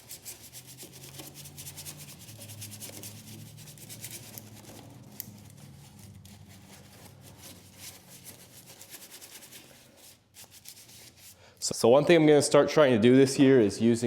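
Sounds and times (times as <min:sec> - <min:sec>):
hand scrubbing scratchy rubbing: 0:00.0 - 0:11.8.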